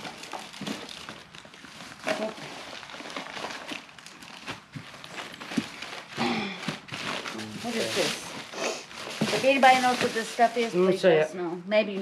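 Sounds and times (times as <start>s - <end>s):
packaging rustling and knocking: 0.0s - 10.8s.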